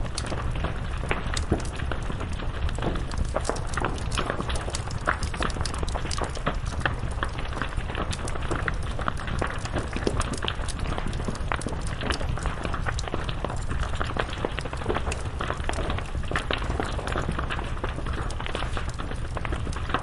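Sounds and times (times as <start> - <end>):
crackling and popping wood: 0.0 - 20.0
low roar of fire: 0.0 - 20.0.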